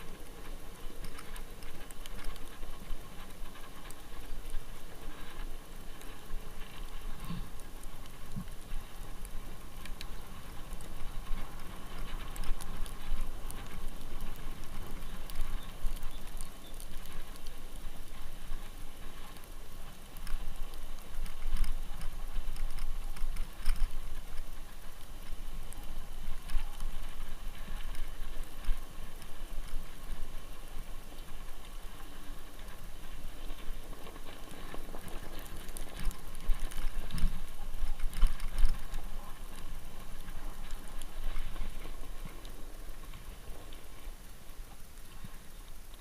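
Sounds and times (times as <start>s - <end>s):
bicycle tyres crunching on snow: 0.0s - 46.0s
bike clicks and rattles: 0.0s - 46.0s.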